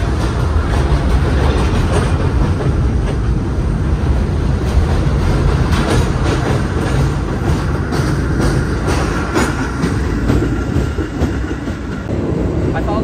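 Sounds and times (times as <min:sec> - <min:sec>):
wheels clicking over rail joints: 0:00.0 - 0:12.1
subway train rumbling past: 0:00.0 - 0:13.0.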